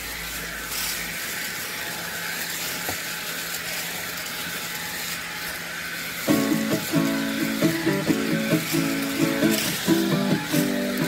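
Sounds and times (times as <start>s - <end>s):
dry leaves rustling on concrete: 0.0s - 11.0s.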